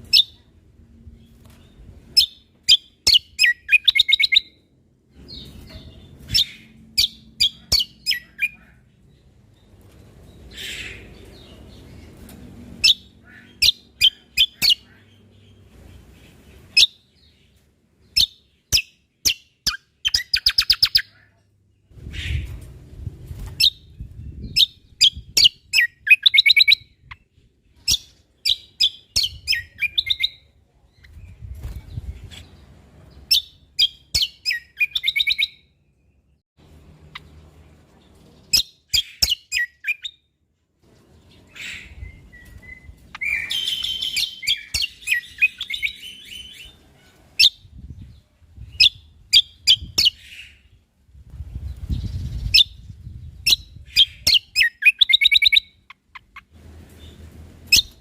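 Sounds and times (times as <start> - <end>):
songbird chirping and trilling: 0.0 - 58.0.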